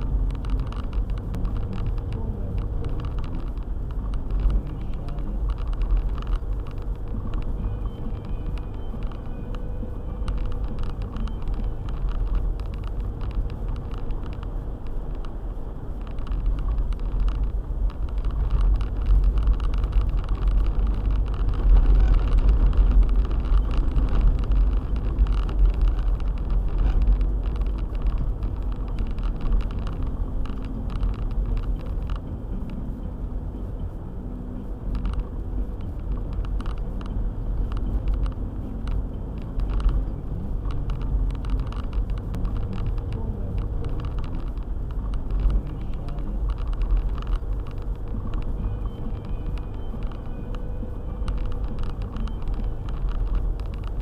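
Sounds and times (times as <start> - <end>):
small ticks: 0.0 - 32.9, 34.6 - 54.0
car rumbling on snowy road: 0.0 - 54.0.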